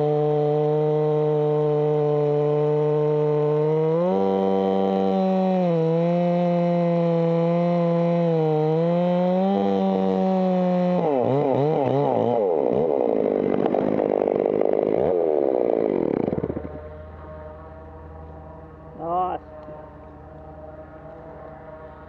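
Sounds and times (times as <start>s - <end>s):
chainsaw cutting wood: 0.0s - 21.3s.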